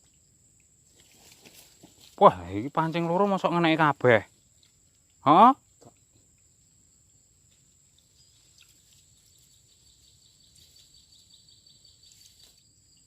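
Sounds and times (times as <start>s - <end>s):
insect chirping: 0.0s - 13.0s
insects droning: 0.0s - 13.0s.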